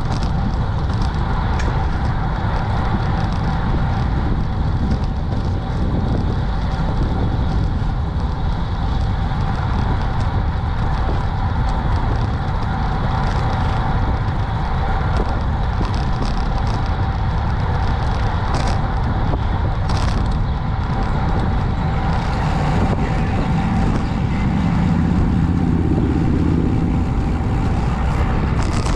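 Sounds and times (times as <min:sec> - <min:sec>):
traffic rumble: 0:00.0 - 0:28.9
wind: 0:00.0 - 0:28.9.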